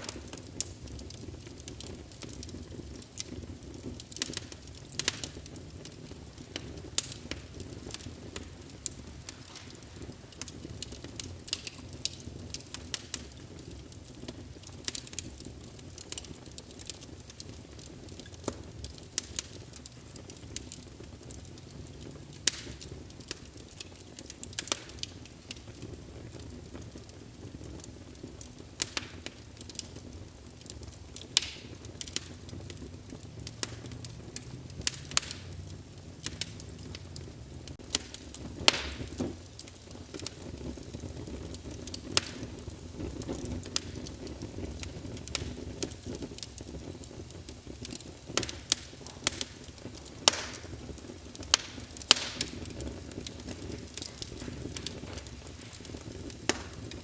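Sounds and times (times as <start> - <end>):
burning logs crackling and popping: 0.0 - 57.0
wood fire rumbling: 0.0 - 57.0.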